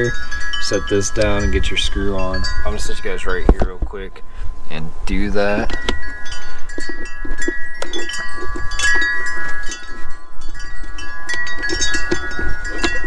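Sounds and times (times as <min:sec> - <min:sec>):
wind chime ringing: 0:00.0 - 0:04.4, 0:05.2 - 0:13.0
low rumble of wind: 0:00.0 - 0:13.0.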